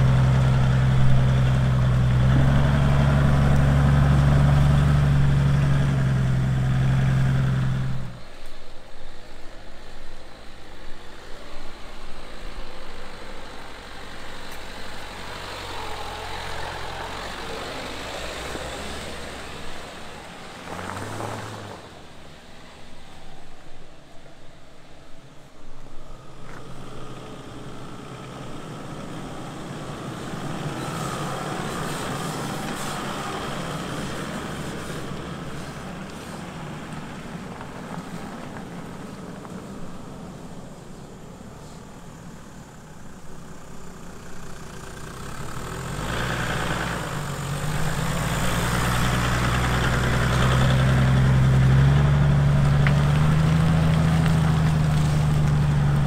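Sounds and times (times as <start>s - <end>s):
diesel engine revving under load: 0.0s - 8.4s, 13.5s - 22.4s, 26.0s - 39.3s, 39.9s - 56.0s.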